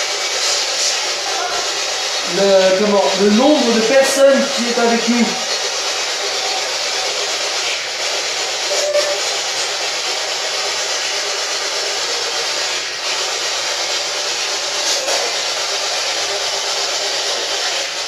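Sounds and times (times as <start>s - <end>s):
loud static hiss: 0.0s - 18.0s.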